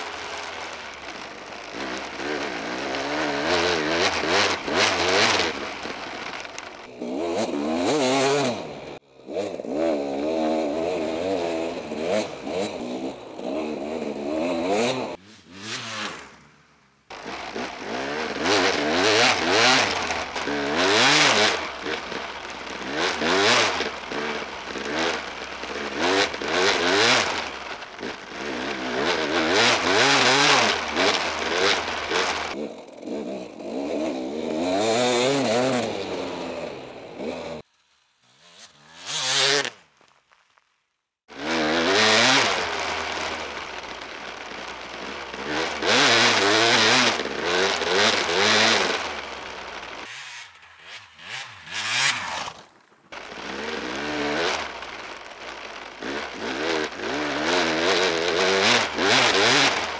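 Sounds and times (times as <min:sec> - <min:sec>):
motorcycle engine revving: 0:00.0 - 0:39.8, 0:41.2 - 0:59.9.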